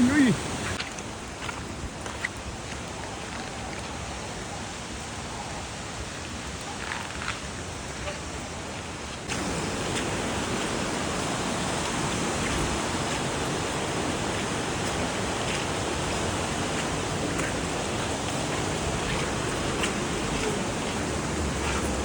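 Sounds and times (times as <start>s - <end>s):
rush of flowing water: 0.0s - 22.0s.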